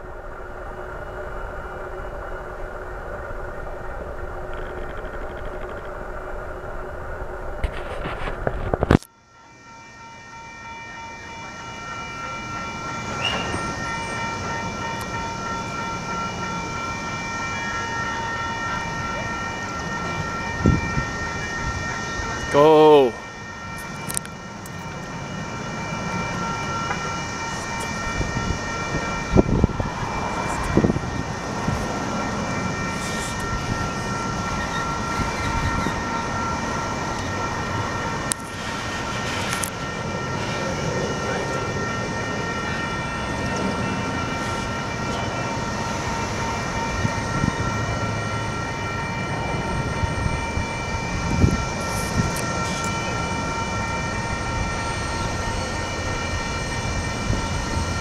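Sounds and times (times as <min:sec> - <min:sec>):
high whine: 0:00.0 - 0:58.0
steel wheels rolling on rail: 0:00.0 - 0:58.0.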